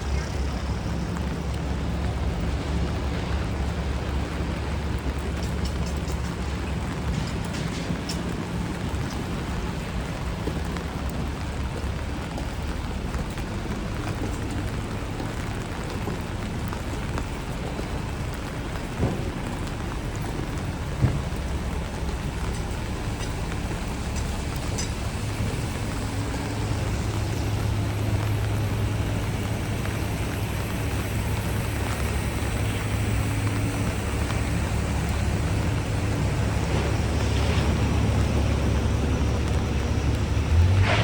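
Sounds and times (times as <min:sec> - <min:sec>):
low engine hum: 0:00.0 - 0:41.0
rain on wet street: 0:00.0 - 0:41.0
traffic rumble: 0:00.0 - 0:41.0.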